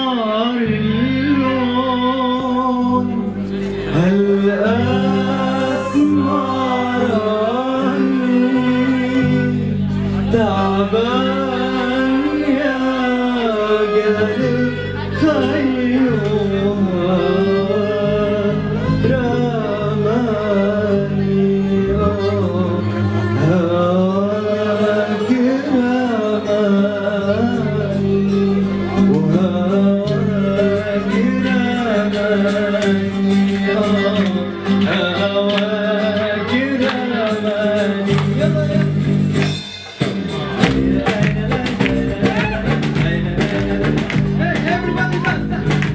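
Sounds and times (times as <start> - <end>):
man singing into a microphone: 0.0 - 39.4, 40.2 - 45.9
instrumental backing with bass: 0.0 - 45.9.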